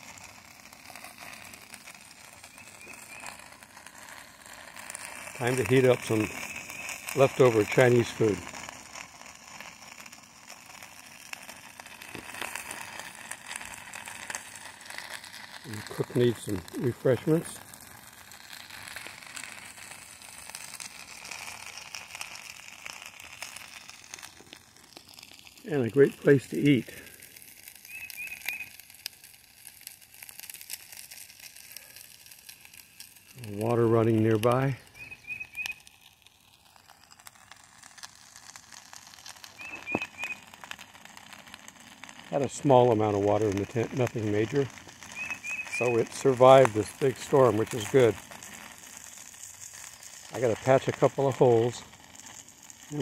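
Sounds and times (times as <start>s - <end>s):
camp stove hiss: 0.0s - 53.0s
food crackling in a pot: 0.0s - 53.0s.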